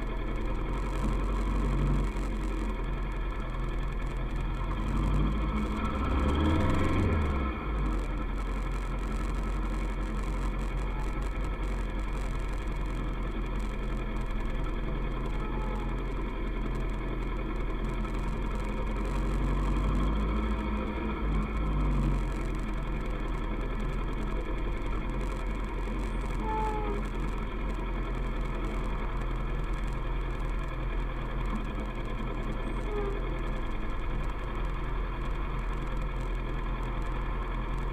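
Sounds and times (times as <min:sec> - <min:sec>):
motorcycle engine cruising: 0:00.0 - 0:37.9
wind and road noise: 0:00.0 - 0:37.9.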